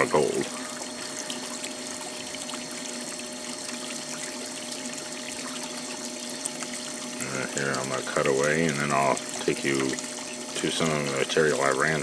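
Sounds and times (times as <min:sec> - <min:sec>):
steady pump hum: 0:00.0 - 0:12.0
water trickling and splashing: 0:00.0 - 0:12.0.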